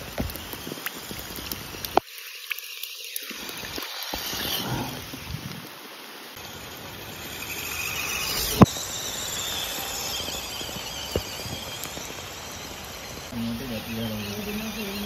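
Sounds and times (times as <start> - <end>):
insects chirping: 0.0 - 15.0
rain hissing: 0.0 - 15.0.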